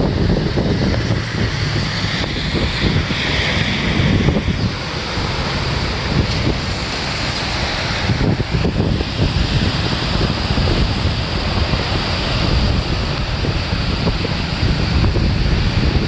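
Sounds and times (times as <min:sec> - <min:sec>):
heavy rain: 0:00.0 - 0:16.0
rushing floodwater: 0:00.0 - 0:16.0
wind buffeting microphone: 0:00.0 - 0:16.0.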